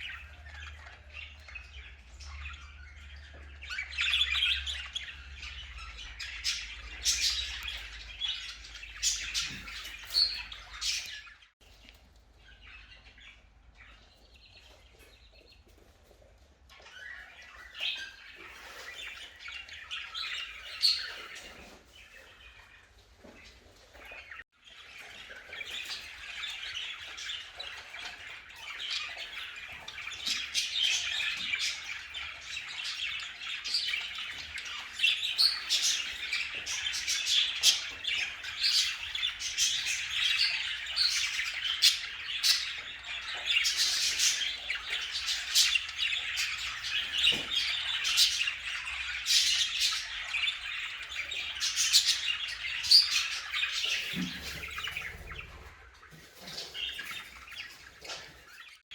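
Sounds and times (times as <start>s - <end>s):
budgerigars chattering: 0.0s - 11.5s, 16.8s - 22.7s, 24.0s - 58.9s.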